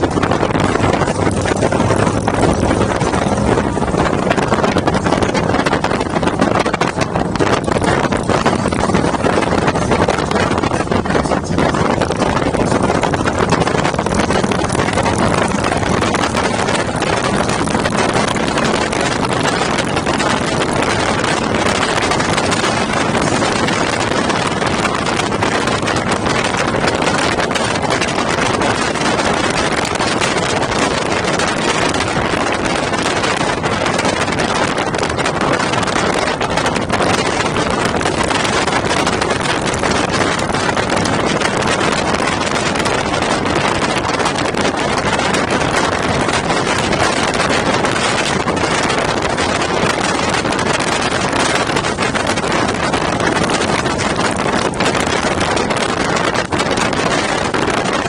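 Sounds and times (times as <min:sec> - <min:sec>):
motorcycle noise: 0:00.0 - 0:58.0
wind rushing over microphone: 0:00.0 - 0:58.0.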